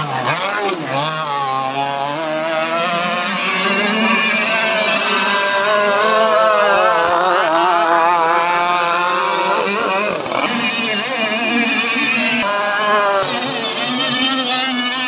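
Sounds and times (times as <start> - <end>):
model boat engines racing: 0.0 - 15.0.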